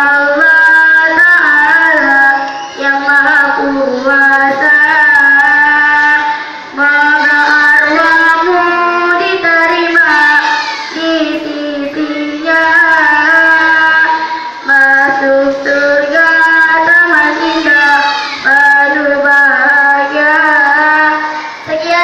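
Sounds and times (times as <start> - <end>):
child singing: 0.0 - 22.0.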